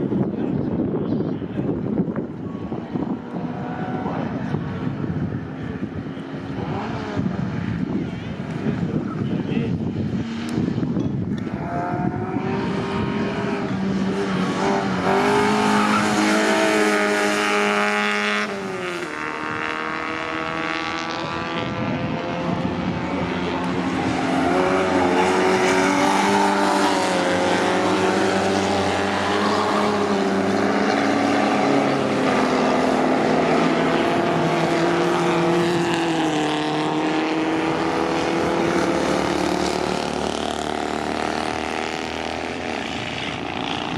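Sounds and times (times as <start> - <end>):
racing car engines passing: 0.0 - 43.9.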